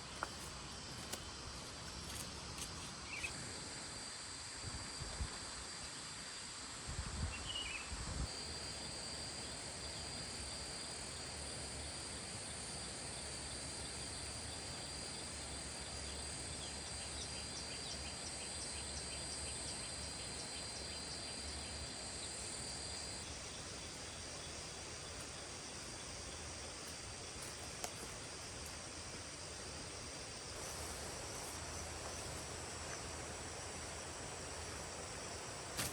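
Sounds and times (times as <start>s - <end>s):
insects droning: 0.0s - 35.9s.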